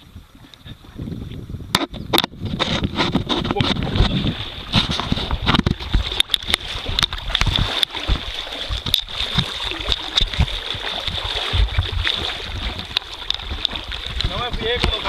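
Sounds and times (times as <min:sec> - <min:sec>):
water splashing and sloshing: 0:00.0 - 0:15.0
wind rumbling on microphone: 0:00.0 - 0:15.0.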